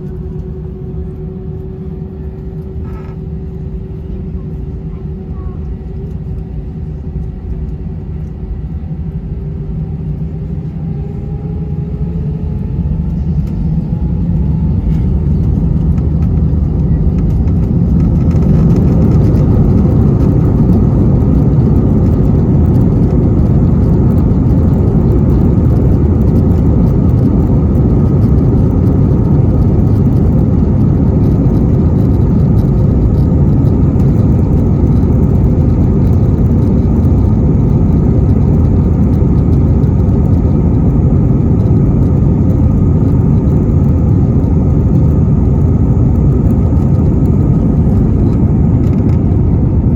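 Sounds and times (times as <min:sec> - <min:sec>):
engine and rolling noise rush: 0:00.0 - 0:49.9
jet engine whine rising: 0:00.0 - 0:49.9.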